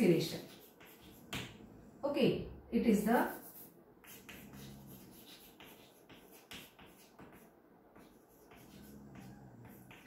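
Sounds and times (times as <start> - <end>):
chalk scratching on blackboard: 0.0 - 1.6, 2.9 - 10.0.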